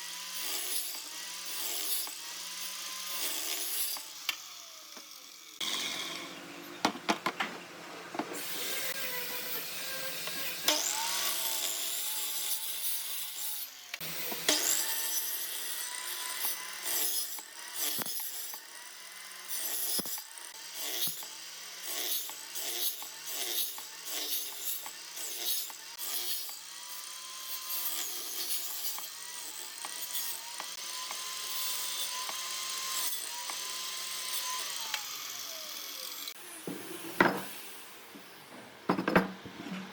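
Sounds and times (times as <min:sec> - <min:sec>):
power tool cutting wood: 0:00.0 - 0:07.5, 0:08.2 - 0:39.3.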